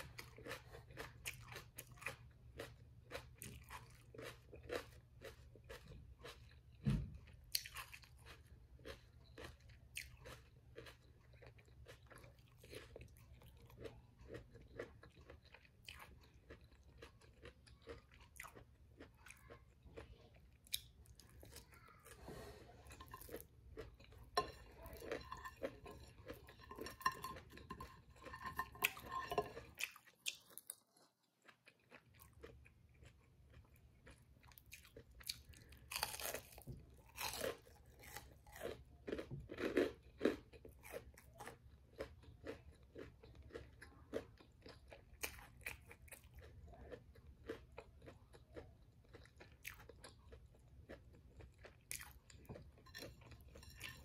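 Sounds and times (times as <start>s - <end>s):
crunchy chewing of fried food: 0.0s - 54.0s.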